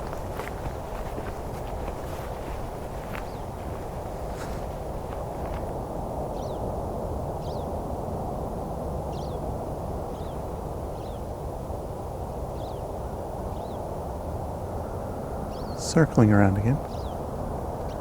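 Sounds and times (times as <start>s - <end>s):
steady low rushing noise: 0.0s - 17.8s.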